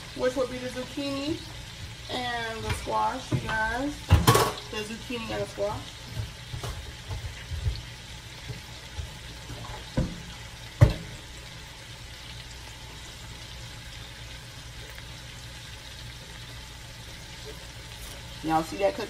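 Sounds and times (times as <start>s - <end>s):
cabbage sizzling in grease: 0.0s - 19.0s.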